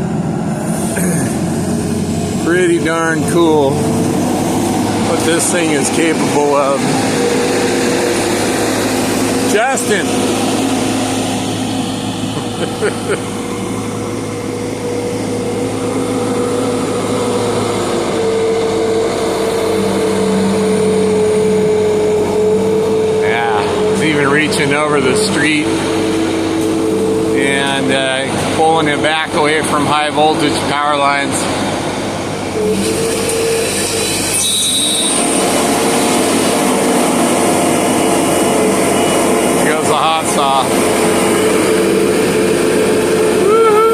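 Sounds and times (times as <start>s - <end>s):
engine running under load: 0.0s - 43.9s
high machine whine: 0.0s - 43.9s.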